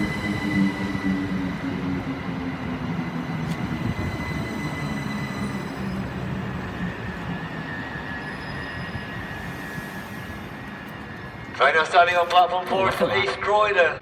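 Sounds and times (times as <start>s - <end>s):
wheel and track rumble: 0.0s - 13.4s
electric train humming and whining: 0.0s - 14.0s.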